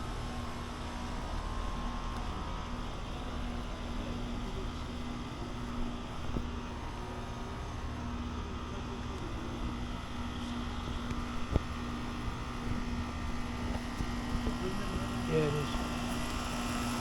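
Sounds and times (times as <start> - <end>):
air conditioner units humming: 0.0 - 17.0
fan noise: 0.0 - 17.0.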